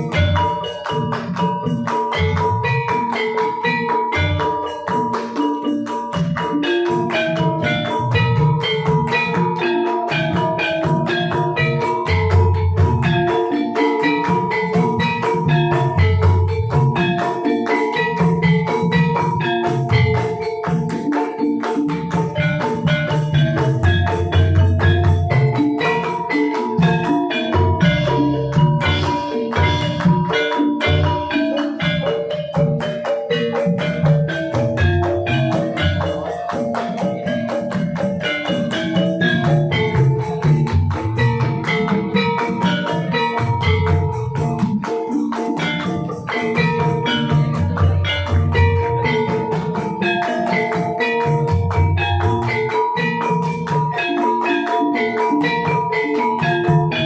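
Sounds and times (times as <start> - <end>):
struck metallophone notes: 0.0 - 57.0.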